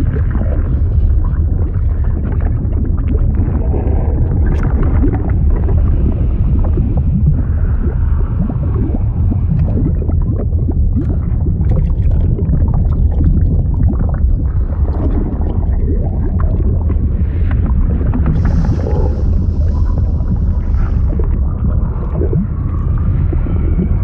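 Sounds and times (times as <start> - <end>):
deep rumble of churning liquid: 0.0 - 24.0
small bubbling sounds: 0.0 - 24.0.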